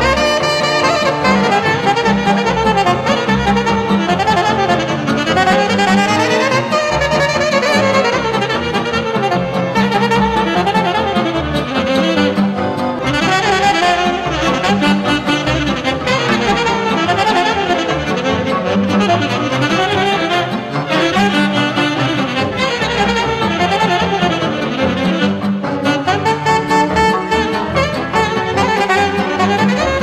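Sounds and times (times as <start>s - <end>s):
backing accompaniment with low notes: 0.0s - 30.0s
saxophone playing folk dance tune: 0.0s - 30.0s.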